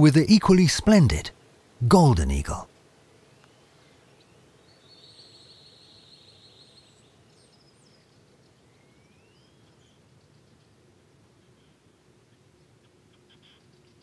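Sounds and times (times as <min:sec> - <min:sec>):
quiet outdoor ambience: 0:00.0 - 0:14.0.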